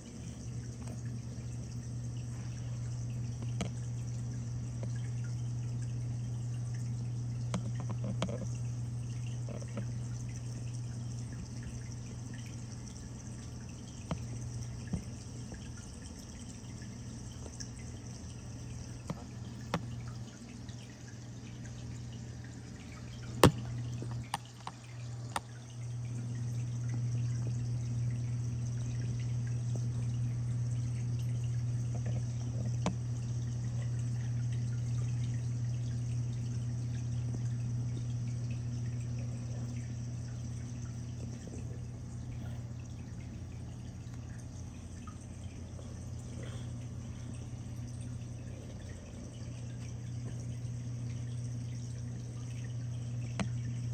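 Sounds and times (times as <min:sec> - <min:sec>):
low pump hum: 0:00.0 - 0:53.9
water trickling and dripping: 0:00.0 - 0:53.9.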